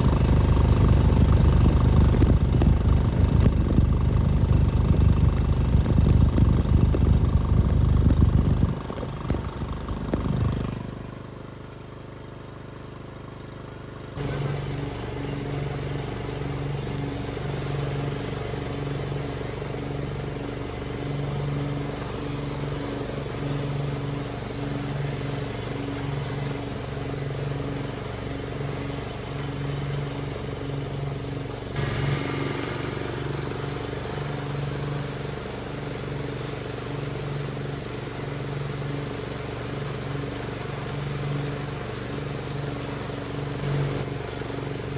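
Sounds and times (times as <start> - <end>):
engine rattle: 0.0 - 44.9
riding lawnmower engine running: 0.0 - 44.9.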